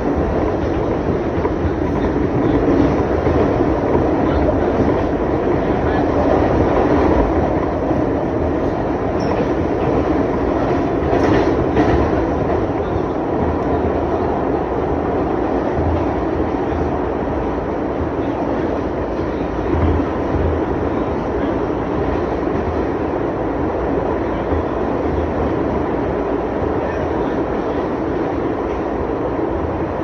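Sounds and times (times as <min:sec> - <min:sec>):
subway train rumbling in tunnel: 0:00.0 - 0:30.0.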